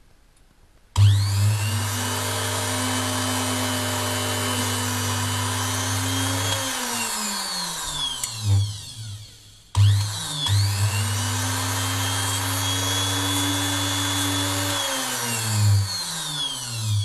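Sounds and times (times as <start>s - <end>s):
small drill motor running: 1.0s - 17.0s.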